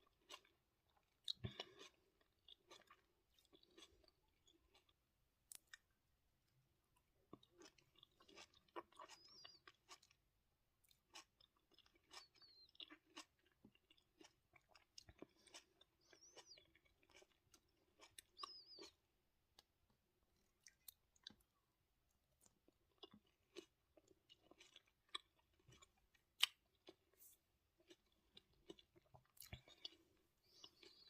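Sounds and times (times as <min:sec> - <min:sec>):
faint chewing and crunching: 0:00.0 - 0:31.0.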